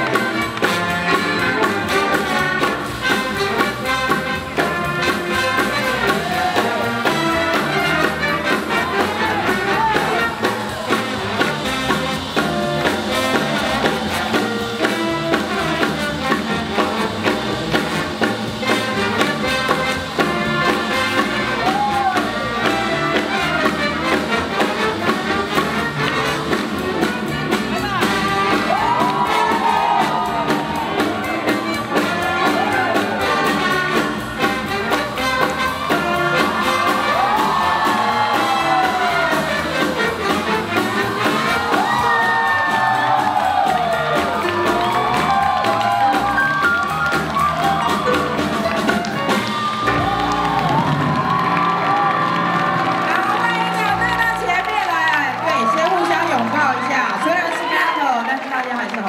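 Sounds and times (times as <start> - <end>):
trumpets and trombones: 0.0 - 54.7
swing jazz big band: 0.0 - 57.8.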